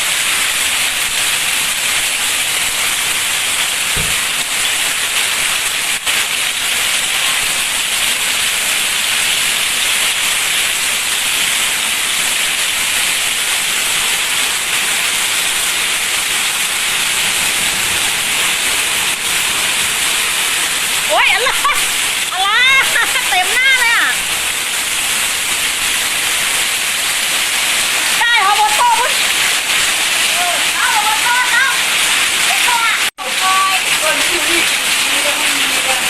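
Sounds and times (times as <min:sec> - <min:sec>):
heavy rain and hail: 0:00.0 - 0:36.0.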